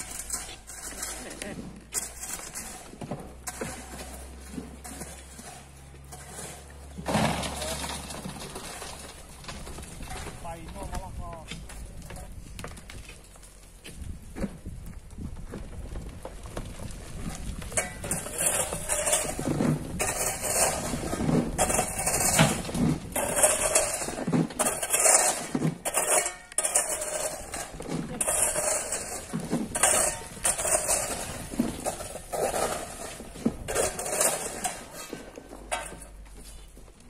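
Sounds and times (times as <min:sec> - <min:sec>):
stones and gravel tumbling down rock: 0:00.0 - 0:37.0.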